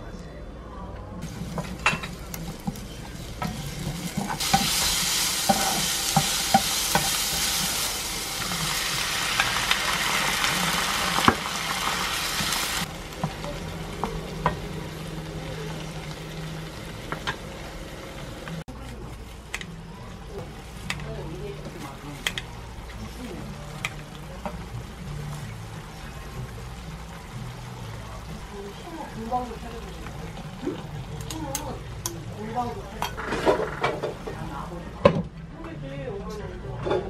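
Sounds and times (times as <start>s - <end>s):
onion sizzling in hot oil: 1.2s - 19.5s, 20.2s - 34.8s.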